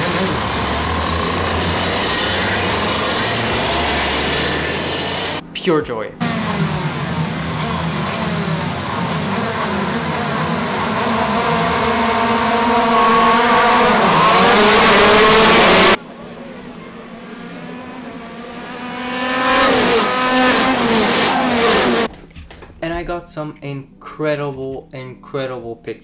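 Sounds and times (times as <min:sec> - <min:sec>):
kart engines revving: 0:00.0 - 0:05.4, 0:06.2 - 0:22.1.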